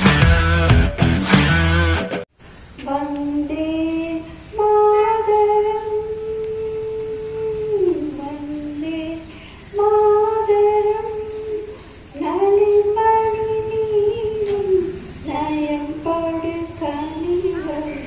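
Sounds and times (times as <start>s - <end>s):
woman singing unaccompanied: 2.8s - 18.0s.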